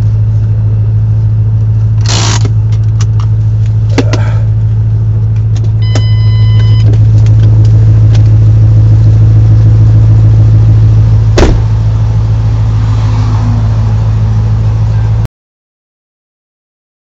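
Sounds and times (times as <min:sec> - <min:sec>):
car engine idling: 0:00.0 - 0:15.3.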